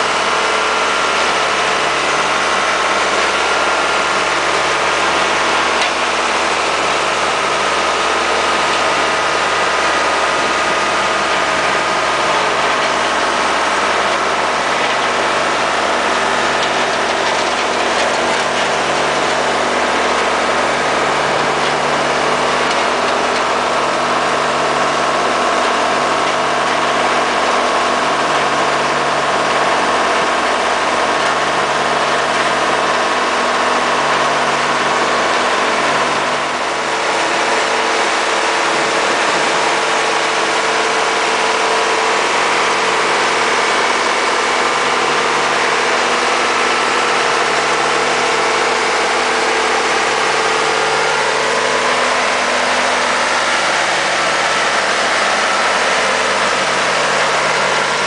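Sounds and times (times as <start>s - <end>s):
road roller engine running: 0.0s - 58.0s.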